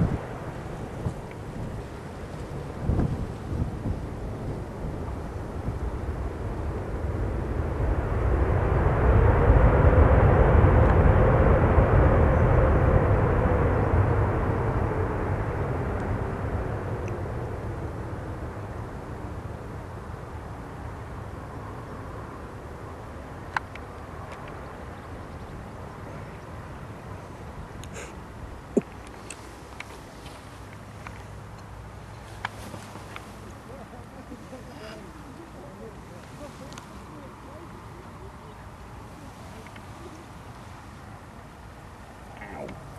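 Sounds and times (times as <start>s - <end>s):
jet engines rumbling: 0.0s - 42.9s
steady jet whine: 0.0s - 42.9s.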